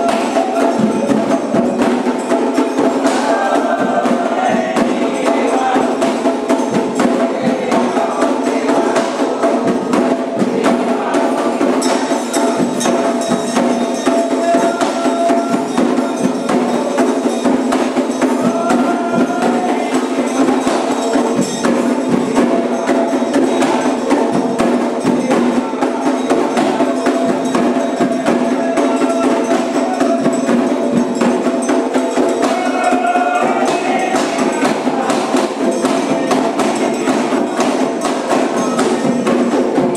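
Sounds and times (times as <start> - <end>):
drums: 0.0 - 39.9
struck bell: 0.0 - 39.9.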